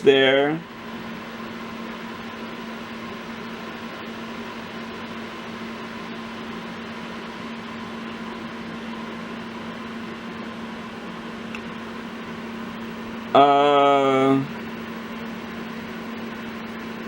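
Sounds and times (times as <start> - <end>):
steady appliance hum with hiss: 0.0 - 17.0.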